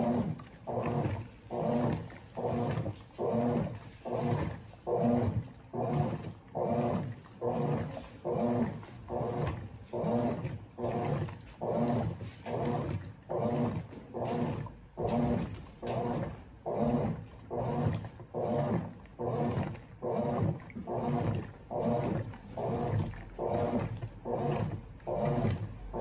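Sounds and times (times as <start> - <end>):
agitator swishing water: 0.0 - 26.0
washing machine motor humming: 0.0 - 26.0.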